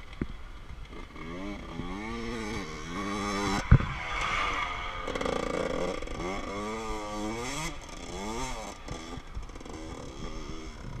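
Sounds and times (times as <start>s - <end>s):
dirt bike engine revving: 0.9s - 11.0s.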